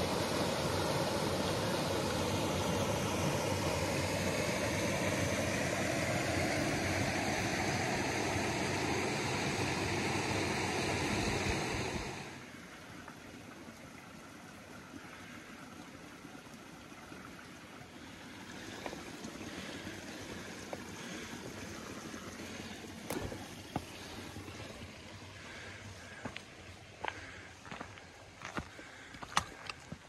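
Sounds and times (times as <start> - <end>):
water rushing down a cascade: 0.0 - 27.4.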